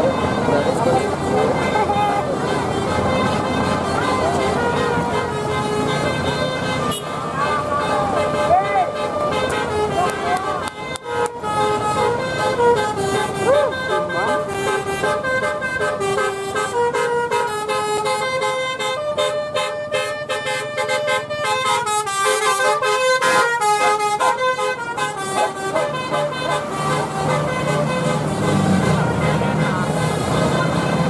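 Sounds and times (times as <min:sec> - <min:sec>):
bus multi-tone horn tune: 0:00.0 - 0:31.0.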